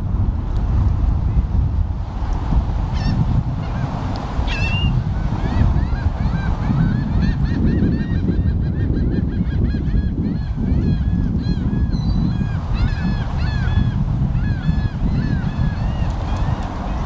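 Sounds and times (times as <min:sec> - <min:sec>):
gulls squawking: 0:03.0 - 0:17.0.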